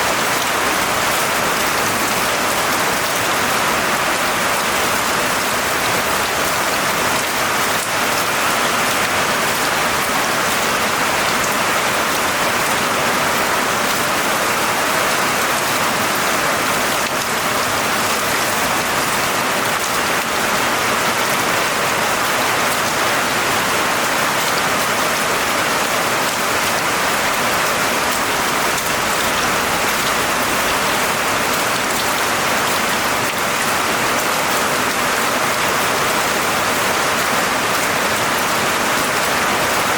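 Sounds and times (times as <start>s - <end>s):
dense rain pattering: 0.0s - 39.9s.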